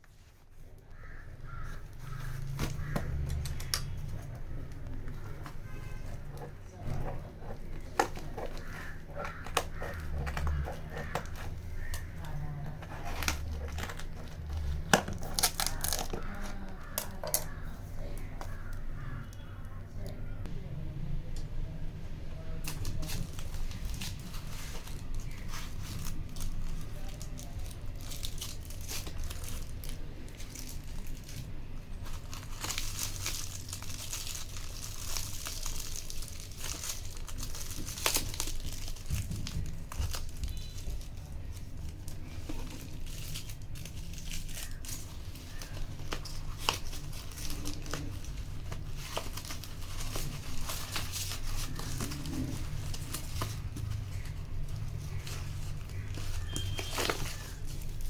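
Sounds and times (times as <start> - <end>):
packaging crinkling and tearing: 0.1 - 19.4, 22.6 - 58.0.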